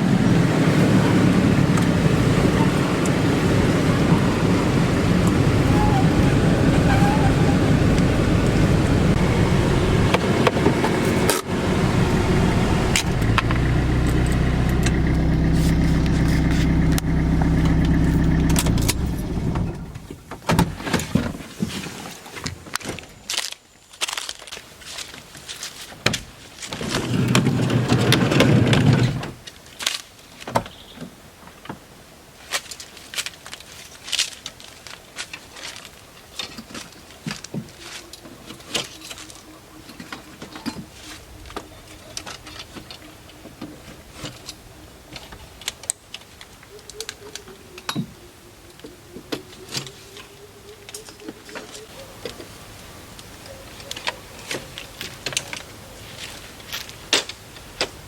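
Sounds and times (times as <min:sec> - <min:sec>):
van engine and road noise: 0:00.0 - 0:21.6, 0:26.1 - 0:32.3, 0:33.1 - 0:58.0.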